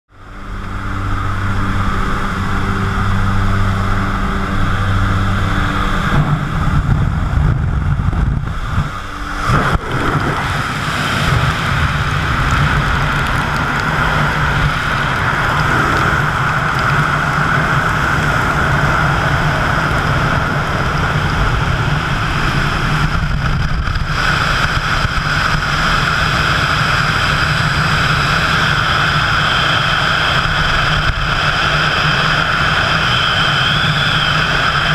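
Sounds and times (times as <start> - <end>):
plane engine droning: 0.1 - 34.9
gusting wind noise: 0.2 - 34.9
wind rushing over microphone: 0.2 - 34.9.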